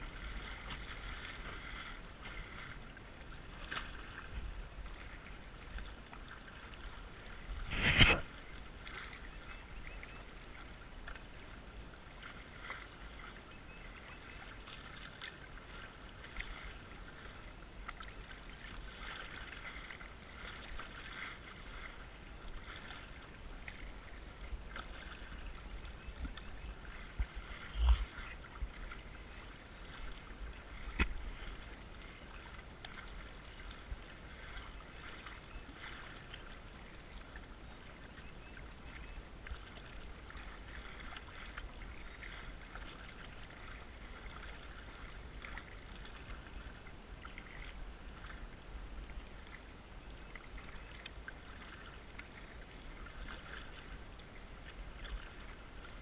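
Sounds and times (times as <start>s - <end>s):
kayak paddle strokes: 0.0s - 56.0s
water splashing against kayak hull: 0.0s - 56.0s.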